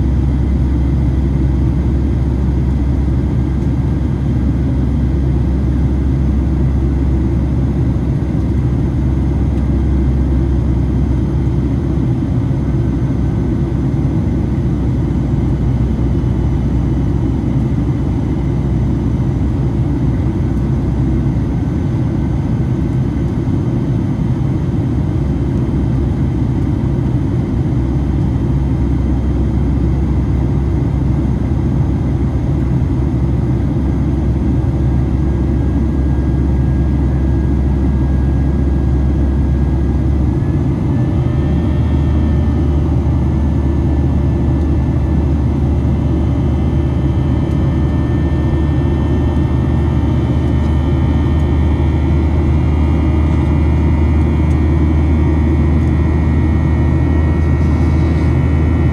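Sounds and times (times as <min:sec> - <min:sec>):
jet engine cabin rumble: 0:00.0 - 0:58.9.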